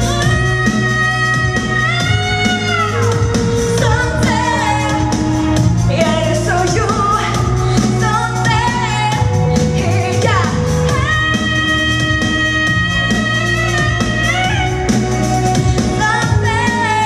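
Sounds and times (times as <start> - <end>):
pop backing track: 0.0 - 17.0
woman singing into a microphone: 0.0 - 17.0.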